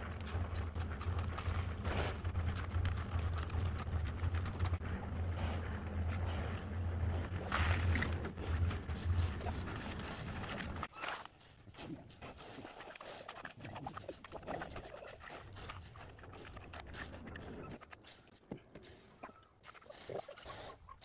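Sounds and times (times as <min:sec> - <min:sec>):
low background rumble: 0:00.0 - 0:19.5.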